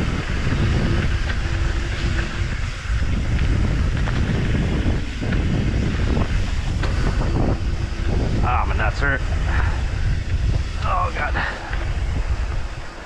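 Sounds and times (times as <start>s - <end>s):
bike rattle: 0.0s - 13.0s
wind buffeting microphone: 0.0s - 13.0s.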